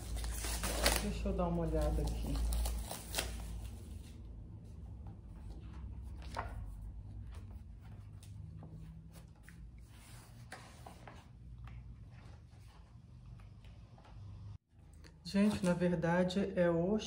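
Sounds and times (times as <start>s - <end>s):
book pages rustling: 0.0s - 14.2s.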